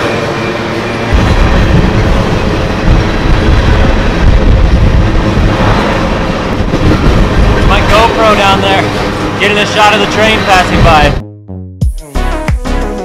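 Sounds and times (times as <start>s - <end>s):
freight train wheels rumbling: 0.0s - 11.2s.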